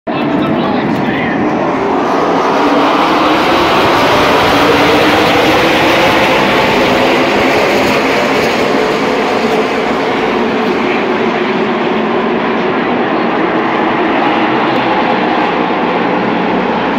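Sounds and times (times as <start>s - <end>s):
race car engines droning: 0.1s - 16.9s.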